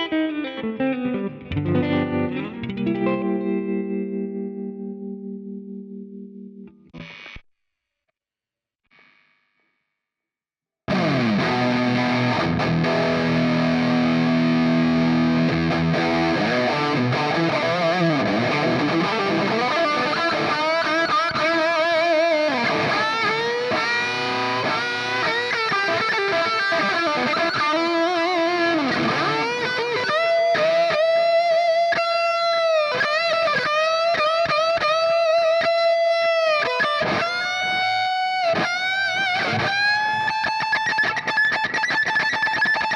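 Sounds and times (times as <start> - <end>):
distorted electric guitar: 0.0 - 7.4, 10.9 - 42.9.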